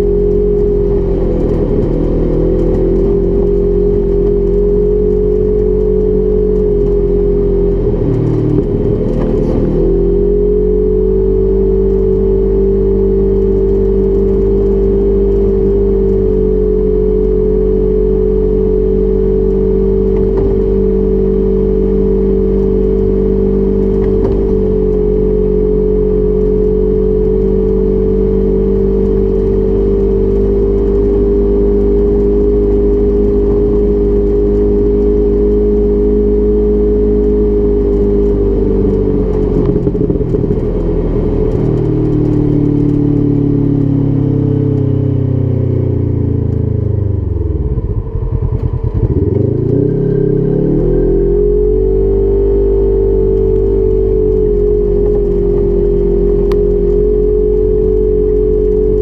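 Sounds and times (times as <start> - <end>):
side-by-side engine running: 0.0 - 59.0.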